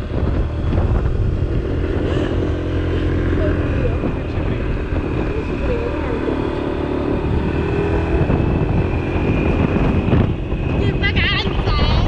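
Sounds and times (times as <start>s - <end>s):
scooter engine running: 0.0s - 12.0s
wind over microphone: 0.0s - 12.0s.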